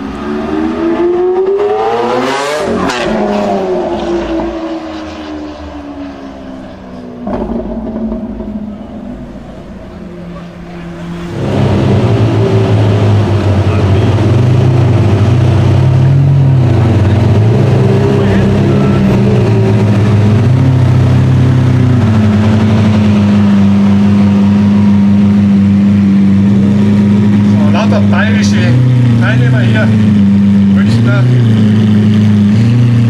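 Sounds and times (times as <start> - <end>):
sports car engine revving: 0.0 - 33.0.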